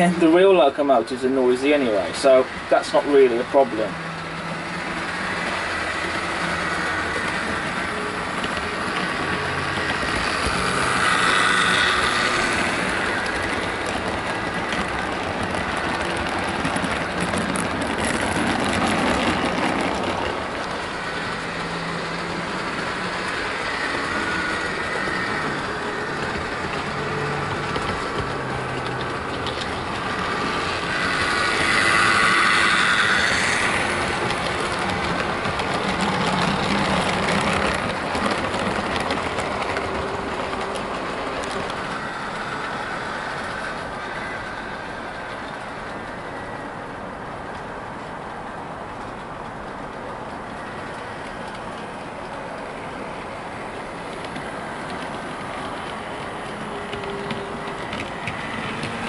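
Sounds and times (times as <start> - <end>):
model train motor running: 0.0 - 47.6, 49.2 - 59.0
wheels running on track: 0.0 - 59.0.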